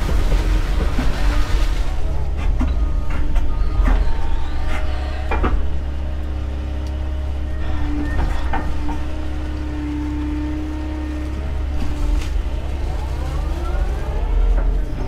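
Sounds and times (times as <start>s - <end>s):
excavator diesel engine: 0.0s - 15.0s
hydraulic whine: 0.0s - 15.0s.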